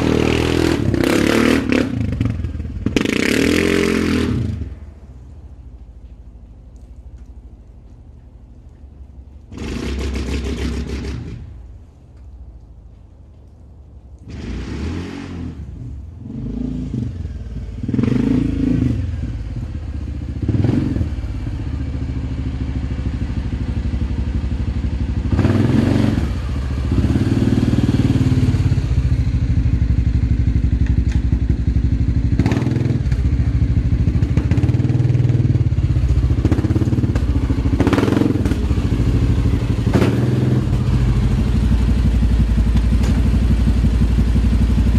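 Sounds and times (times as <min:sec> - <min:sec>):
atv engine revving: 0:00.0 - 0:04.8, 0:09.5 - 0:11.6, 0:14.2 - 0:44.9.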